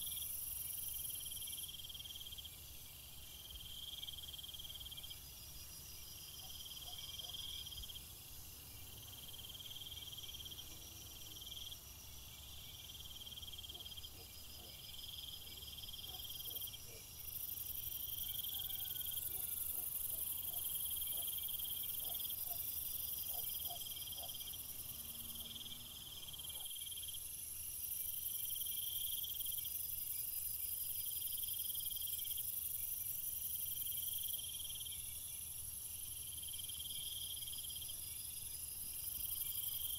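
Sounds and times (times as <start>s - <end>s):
insect chirping trill: 0.0s - 39.9s.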